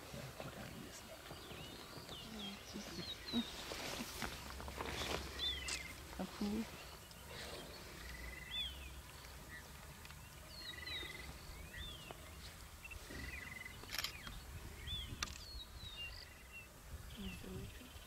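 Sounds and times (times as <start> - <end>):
birds whistling and trilling: 0.8 - 18.0.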